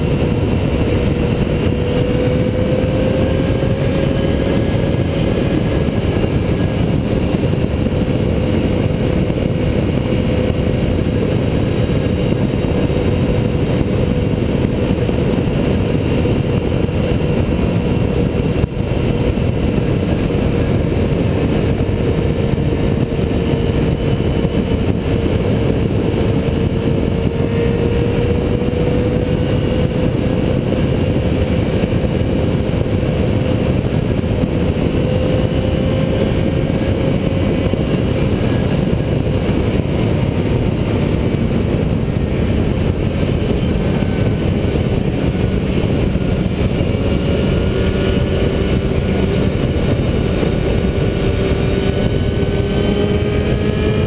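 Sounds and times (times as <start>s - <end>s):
motorcycle engine drone: 0.0s - 54.0s
wind rush: 0.0s - 54.0s.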